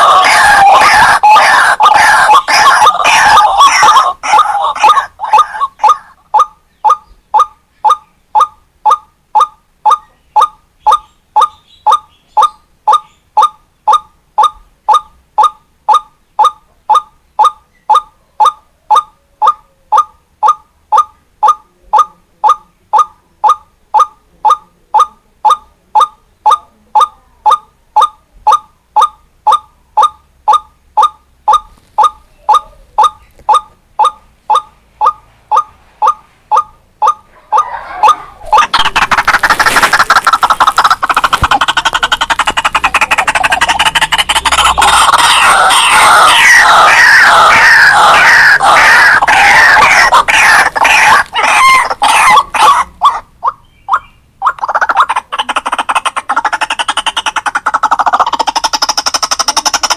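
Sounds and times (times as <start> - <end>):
waterhen call: 0.0 - 59.9.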